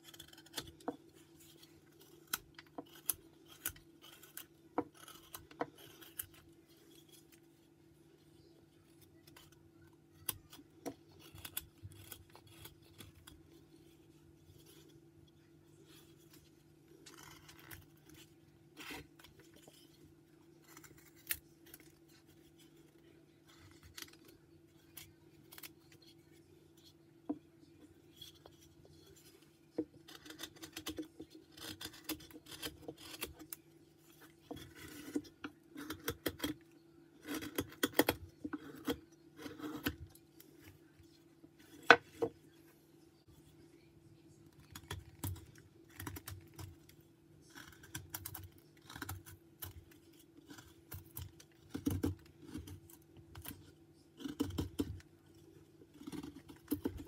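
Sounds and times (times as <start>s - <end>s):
knife carving wood: 0.0s - 42.4s, 44.4s - 57.0s
faint steady hum: 0.0s - 57.0s.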